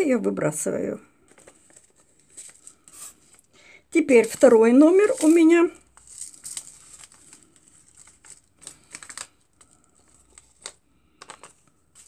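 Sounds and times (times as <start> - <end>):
paper packets rustling: 1.2 - 12.0.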